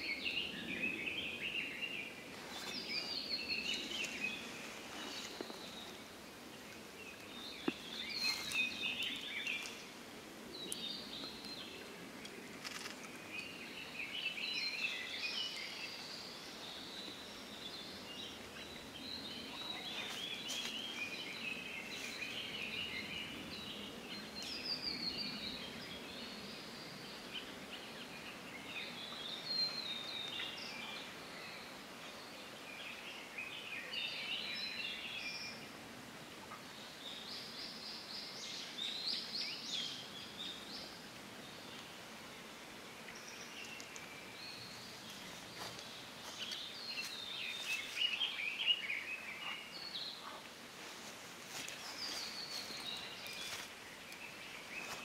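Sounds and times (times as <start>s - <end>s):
small birds twittering: 0.0s - 55.0s.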